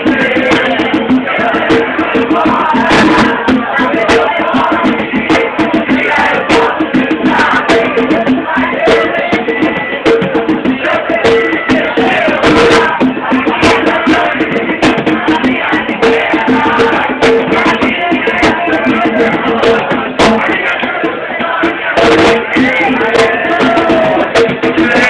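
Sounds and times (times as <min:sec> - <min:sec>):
hand drum struck in fast rhythm: 0:00.0 - 0:25.0.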